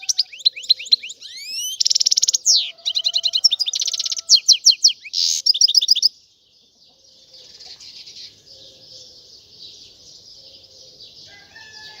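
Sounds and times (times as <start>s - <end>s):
distant birds chirping: 0.0s - 12.0s
goldfinch song: 0.0s - 12.0s.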